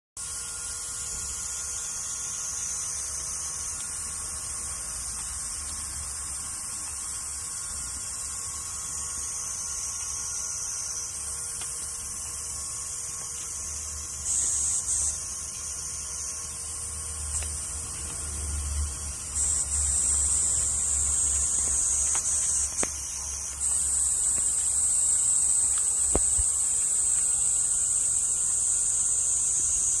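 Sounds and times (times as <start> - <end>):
cicadas buzzing: 0.2 - 30.0
bonfire crackles: 2.5 - 30.0.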